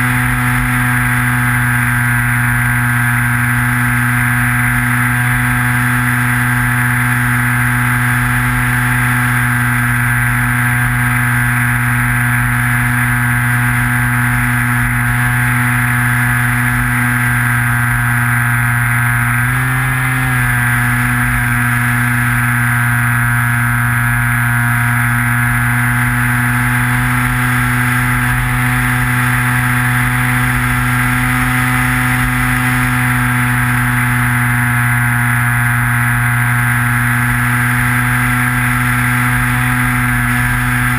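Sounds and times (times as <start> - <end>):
model plane motor whine: 0.0 - 40.9.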